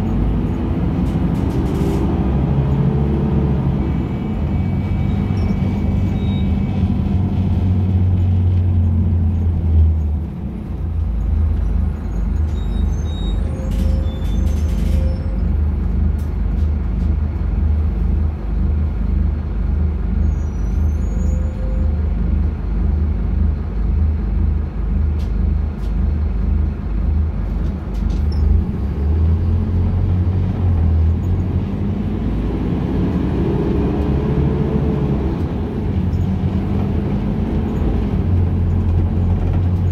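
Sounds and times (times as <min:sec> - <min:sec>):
bus diesel engine drone: 0:00.0 - 0:39.9
road rumble: 0:00.0 - 0:39.9.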